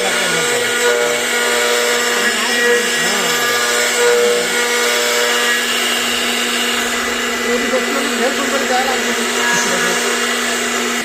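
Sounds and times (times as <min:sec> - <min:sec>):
cutting noise: 0:00.0 - 0:11.0
motor tones gliding in pitch: 0:00.0 - 0:11.0
router spindle whine: 0:00.0 - 0:11.0.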